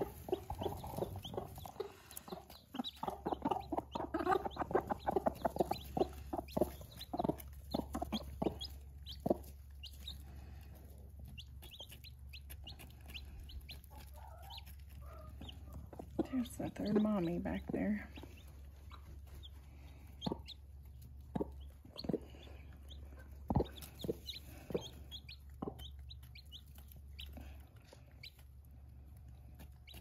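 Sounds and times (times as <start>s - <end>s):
hens clucking rapidly: 0.0s - 30.0s
high chick peeps: 0.0s - 30.0s.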